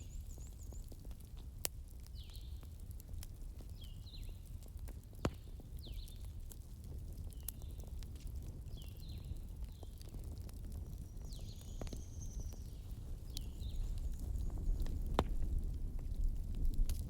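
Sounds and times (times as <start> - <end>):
campfire burning: 0.0 - 17.0
wood crackling pops: 0.1 - 17.0.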